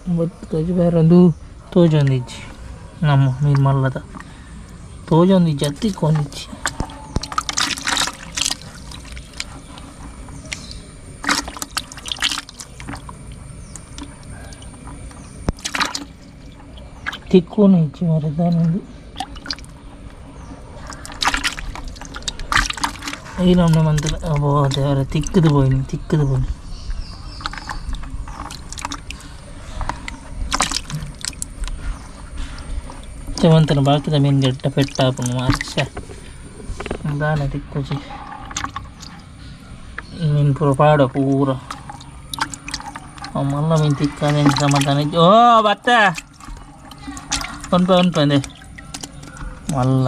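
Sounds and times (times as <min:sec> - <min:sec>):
water splashing: 0:02.0 - 0:50.0.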